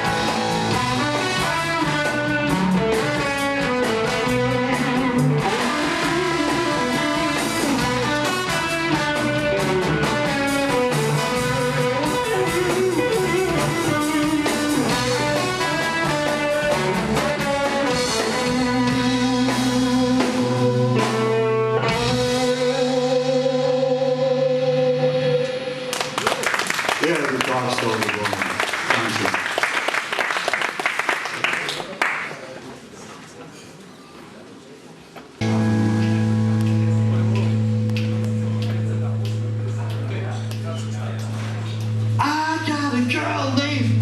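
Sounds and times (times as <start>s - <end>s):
rock blues band playing: 0.0s - 28.0s, 35.4s - 44.0s.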